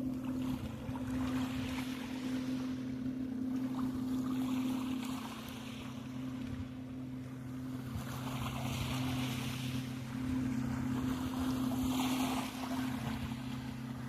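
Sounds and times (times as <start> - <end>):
low engine drone: 0.0 - 14.0
water noise: 0.0 - 14.0
wind: 0.0 - 14.0.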